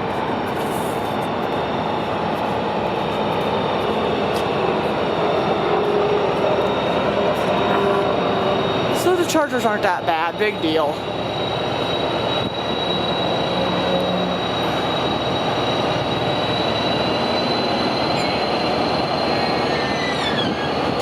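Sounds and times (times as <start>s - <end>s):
train rumbling past: 0.0s - 21.0s
high-pitched squeal: 0.5s - 21.0s.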